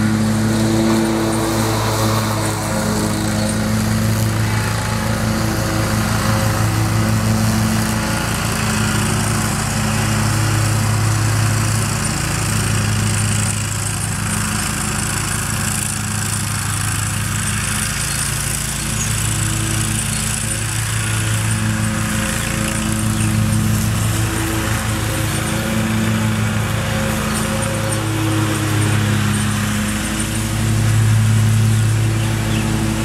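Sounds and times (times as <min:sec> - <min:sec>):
mower engine running: 0:00.0 - 0:33.0.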